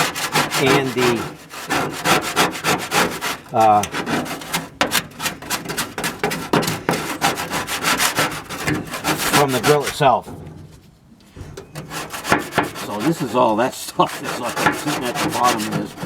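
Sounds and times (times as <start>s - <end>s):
scraper scraping metal pan: 0.0s - 10.3s, 11.7s - 16.0s.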